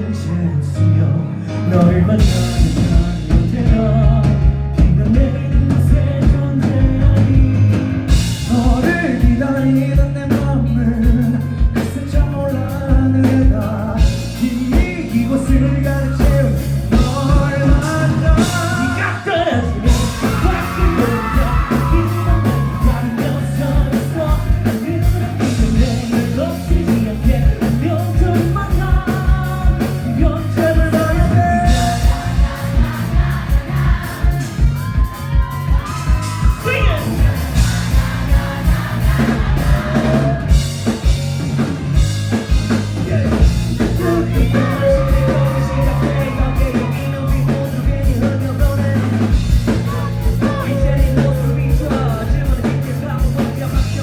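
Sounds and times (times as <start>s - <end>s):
person singing: 0.0s - 41.2s, 42.9s - 54.0s
rock band playing: 0.0s - 54.0s.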